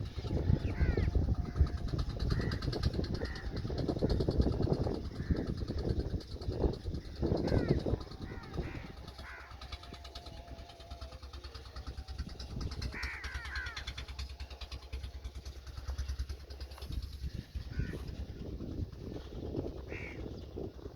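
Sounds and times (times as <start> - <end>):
water pump engine droning: 0.0 - 20.1
birds calling: 0.0 - 20.9.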